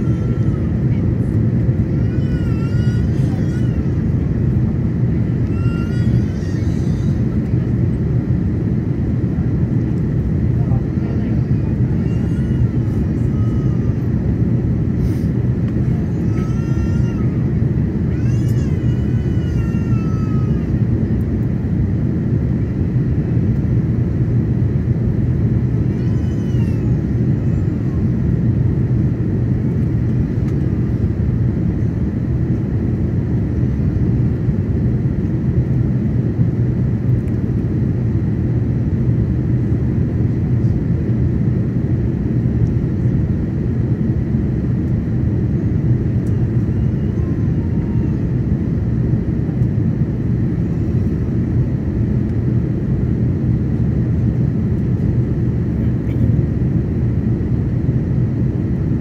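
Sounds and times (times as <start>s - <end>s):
aircraft cabin rumble: 0.0s - 59.0s
faint steady whine: 0.0s - 59.0s.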